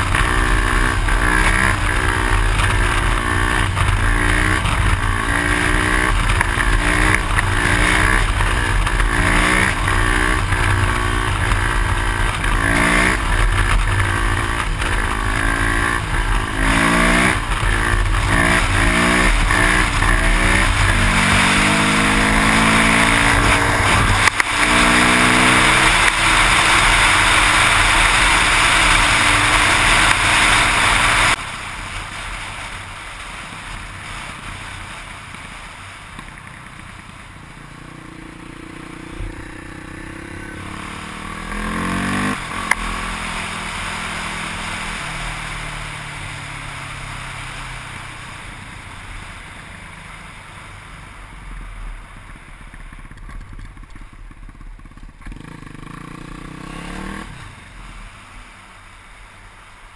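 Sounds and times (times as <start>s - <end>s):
motorcycle engine: 0.0s - 59.8s.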